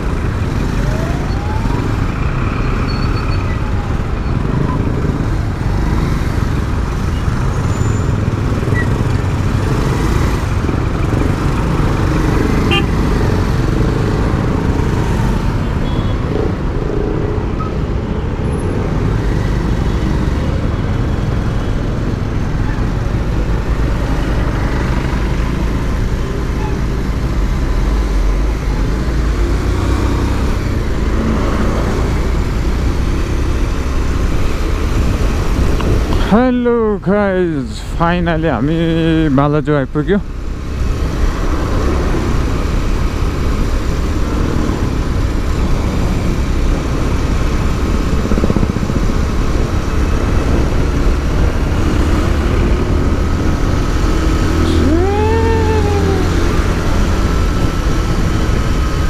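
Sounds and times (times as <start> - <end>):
surrounding traffic: 0.0 - 59.0
vehicle engine and road noise: 0.0 - 59.0.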